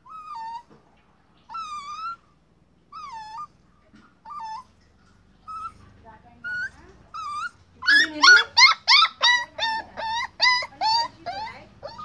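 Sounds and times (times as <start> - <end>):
puppy whining: 0.0 - 12.0.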